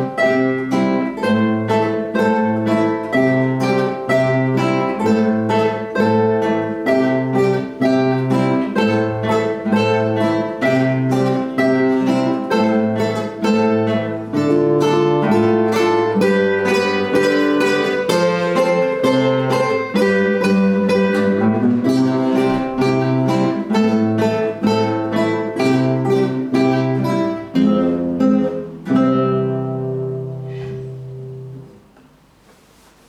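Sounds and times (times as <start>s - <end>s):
guitars playing together: 0.0s - 32.2s.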